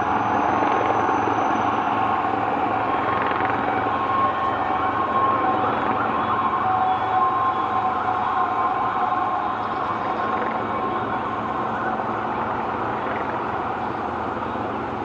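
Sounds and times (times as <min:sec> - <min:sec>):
helicopter rotor beating: 0:00.0 - 0:15.0
street noise: 0:00.0 - 0:15.0.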